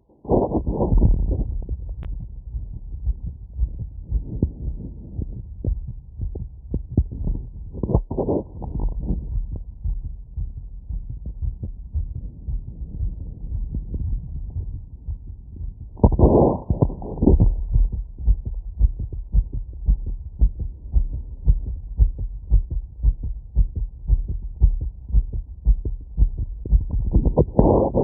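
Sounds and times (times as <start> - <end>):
fast heartbeat through stethoscope: 0.0 - 28.0.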